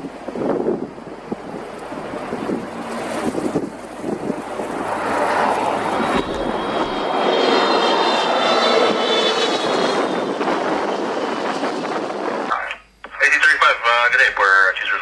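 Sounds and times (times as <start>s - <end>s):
jet engines roaring: 0.0s - 15.0s
thin high engine whine: 0.0s - 15.0s.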